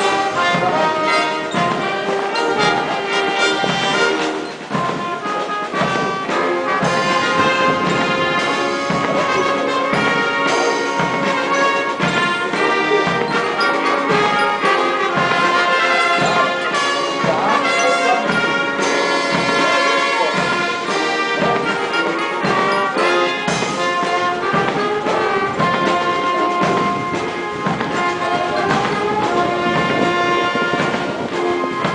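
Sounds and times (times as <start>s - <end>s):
military band playing a march: 0.0s - 31.9s.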